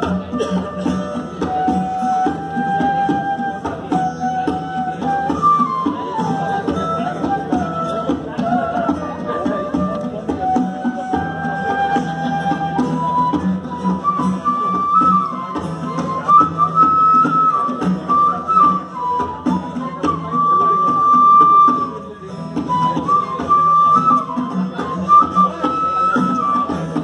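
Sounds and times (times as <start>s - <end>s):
acoustic guitar: 0.0s - 27.0s
dholak drum: 0.0s - 27.0s
flute melody: 0.0s - 27.0s.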